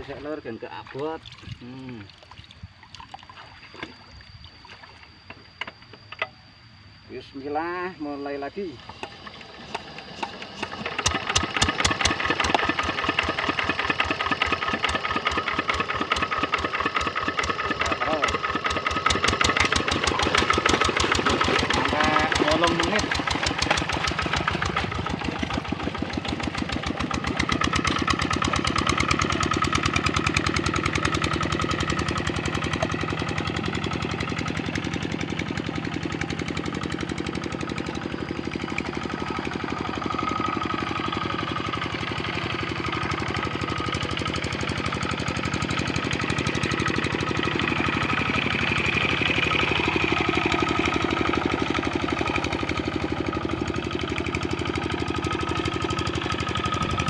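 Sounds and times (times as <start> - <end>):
diesel engine chugging: 8.3 - 57.0.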